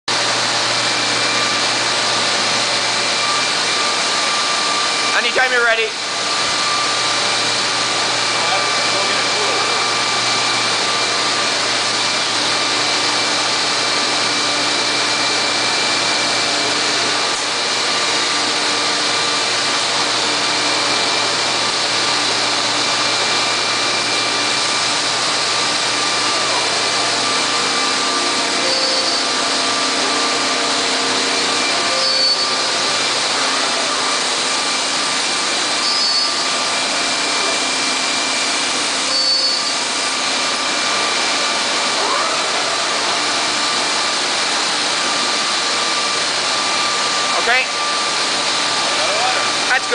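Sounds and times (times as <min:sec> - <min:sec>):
machining center whirring: 0:00.1 - 0:49.9.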